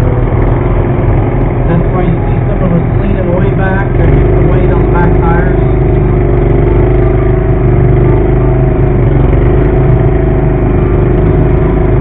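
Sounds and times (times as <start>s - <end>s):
garden tractor engine under load: 0.0s - 12.0s.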